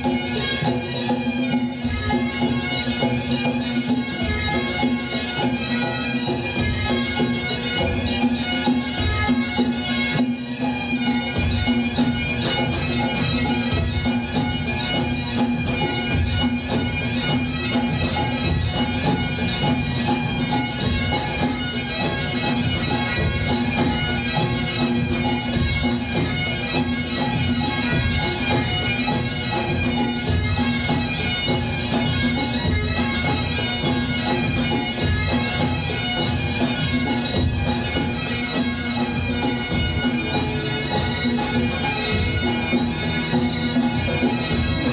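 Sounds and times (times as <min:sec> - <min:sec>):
bagpipes playing a tune: 0:00.0 - 0:44.9
drums beating: 0:00.0 - 0:44.9.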